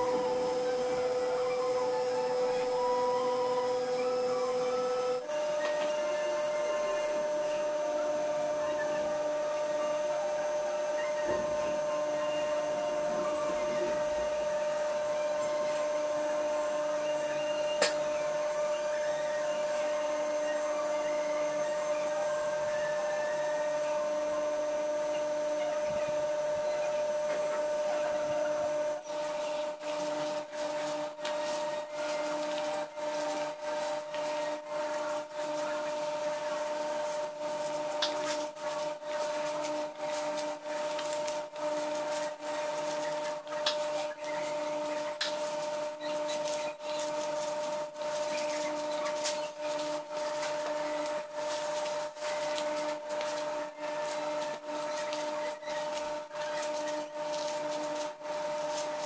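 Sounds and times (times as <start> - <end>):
steady mechanical hum with hiss: 0.0 - 59.0.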